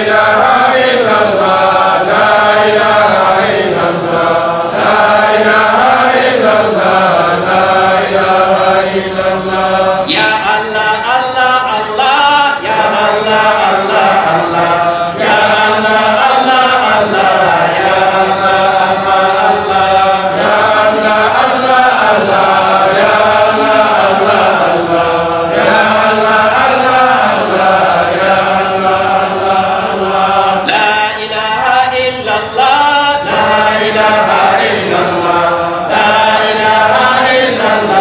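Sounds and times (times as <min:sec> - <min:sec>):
man chanting into a microphone: 0:00.0 - 0:38.0
voices chanting in rhythm: 0:00.0 - 0:38.0.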